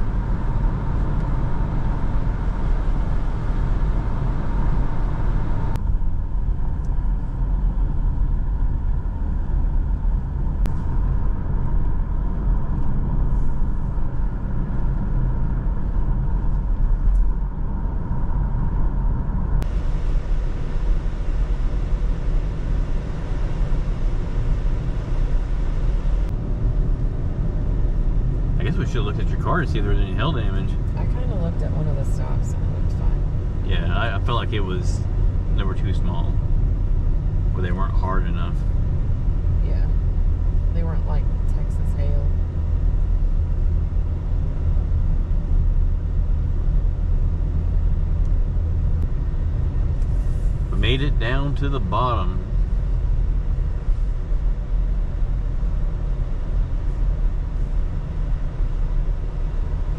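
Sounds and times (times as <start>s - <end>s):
engine and tyre rumble: 0.0s - 59.9s
faint steady whine: 0.0s - 59.9s.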